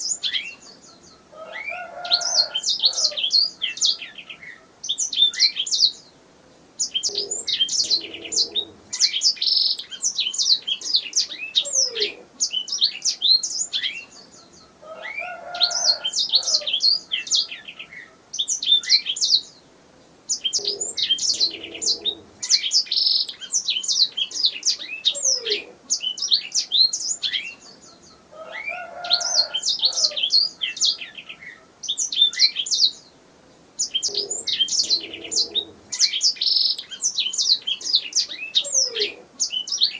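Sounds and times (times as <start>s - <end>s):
canary singing: 0.0s - 6.1s, 6.8s - 19.6s, 20.3s - 33.1s, 33.8s - 39.9s.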